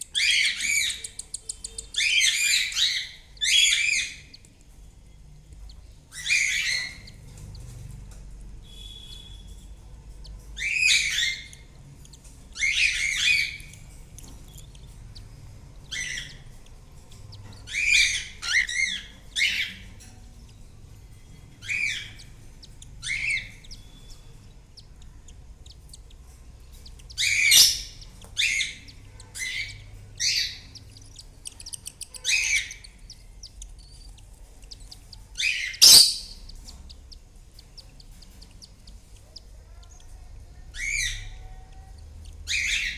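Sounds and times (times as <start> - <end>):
cockatiels chirping: 0.0 - 4.7, 5.6 - 7.8, 8.6 - 42.9
faint low hum: 0.0 - 42.9.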